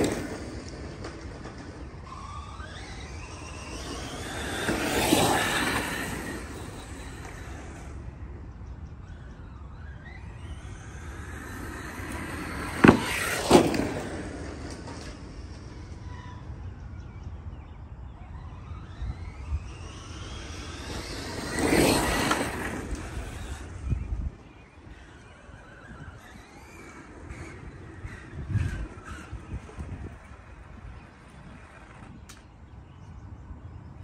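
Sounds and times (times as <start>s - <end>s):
electric motor whining: 0.0s - 32.4s.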